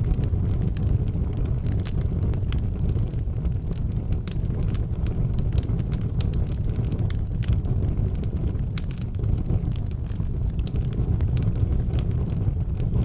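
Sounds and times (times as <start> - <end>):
wood fire roaring and crackling: 0.0 - 13.0.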